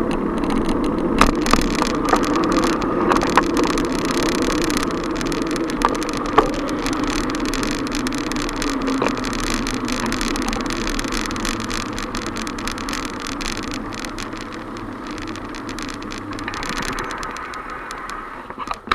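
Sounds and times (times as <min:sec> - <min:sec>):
motor vehicle engine: 0:00.0 - 0:18.9
street traffic: 0:00.0 - 0:18.9.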